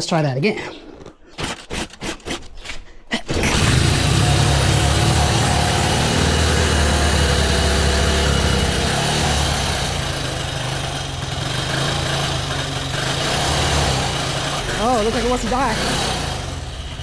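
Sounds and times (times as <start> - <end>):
motorcycle engine running on choke: 3.3 - 17.0.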